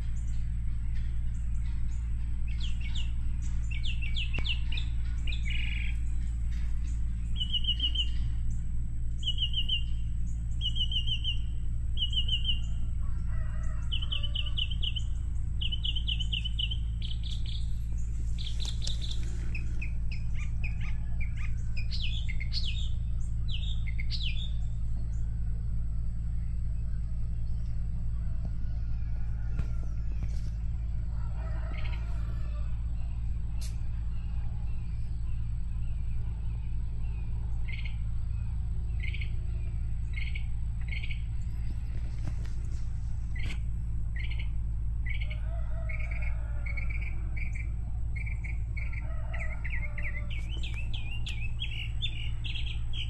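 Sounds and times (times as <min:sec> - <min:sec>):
small birds chirping and trilling: 0:00.0 - 0:53.0
steady low hum: 0:00.0 - 0:53.0.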